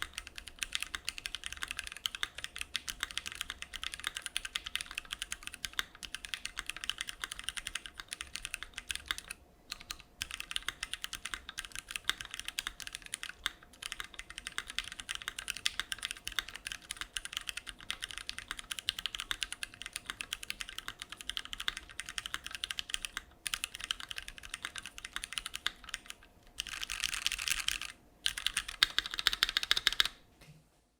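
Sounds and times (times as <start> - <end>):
mechanical keyboard typing: 0.0 - 30.2.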